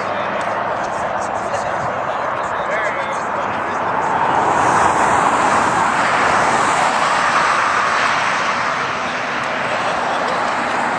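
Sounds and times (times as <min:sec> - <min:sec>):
car passing: 0:00.0 - 0:10.9
highway traffic rushing: 0:00.0 - 0:10.9.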